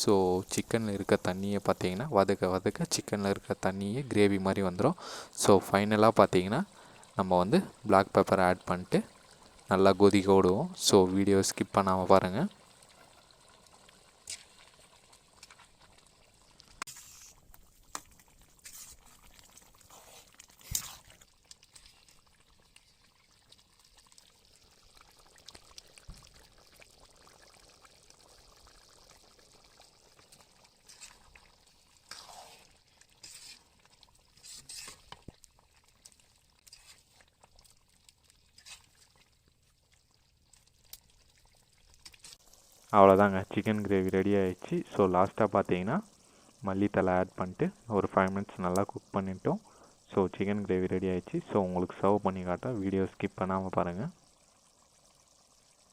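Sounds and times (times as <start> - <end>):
gravy bubbling in a pot: 0.0 - 55.9.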